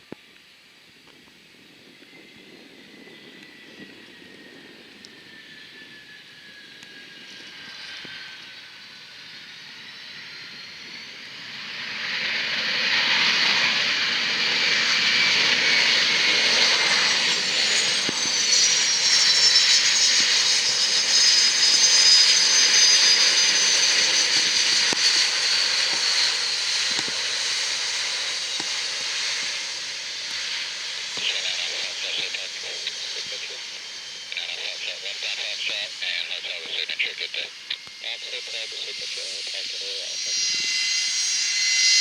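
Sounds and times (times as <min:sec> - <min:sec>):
jet aircraft engine whine: 0:00.0 - 0:42.0.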